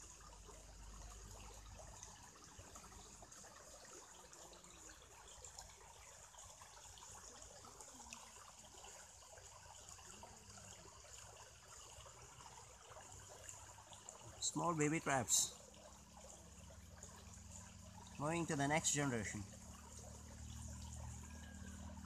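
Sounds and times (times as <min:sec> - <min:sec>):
faint trickling water: 0:00.0 - 0:22.0.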